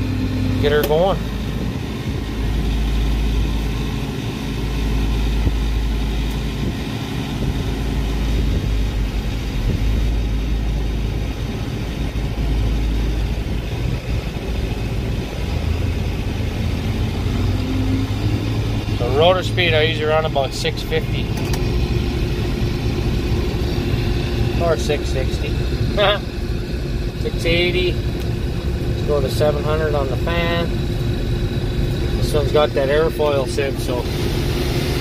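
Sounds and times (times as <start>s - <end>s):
diesel engine running: 0.0s - 35.0s
threshing machinery spinning up: 0.0s - 35.0s.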